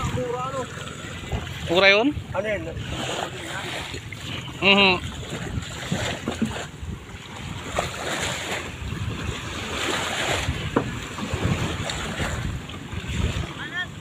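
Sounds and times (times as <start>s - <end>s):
small waves washing ashore: 0.0s - 14.0s
wind on microphone: 0.0s - 14.0s.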